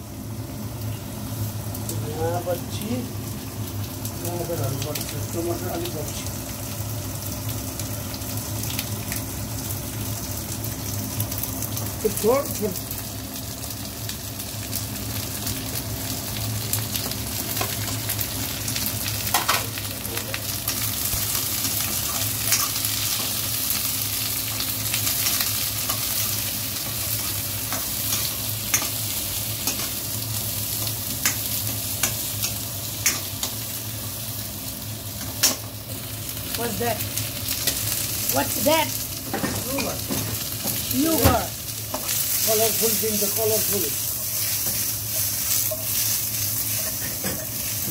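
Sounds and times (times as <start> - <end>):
vegetables sizzling in oil: 0.0 - 47.9.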